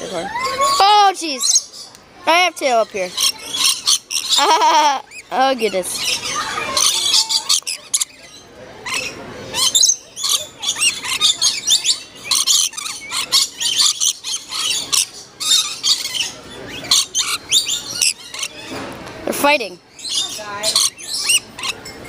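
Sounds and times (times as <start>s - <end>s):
parrots screeching and chattering: 0.0s - 22.0s.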